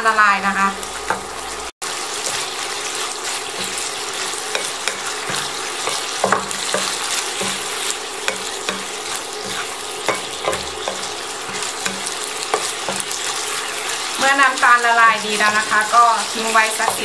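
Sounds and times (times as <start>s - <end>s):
meat sizzling in a pan: 0.3s - 17.0s
wooden spatula scraping and knocking: 2.2s - 14.2s, 15.0s - 17.0s.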